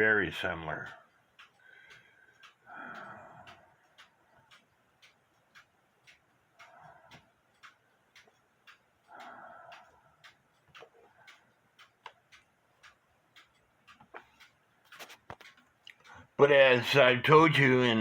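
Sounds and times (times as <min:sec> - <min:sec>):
mechanical clock ticking: 0:00.0 - 0:18.0.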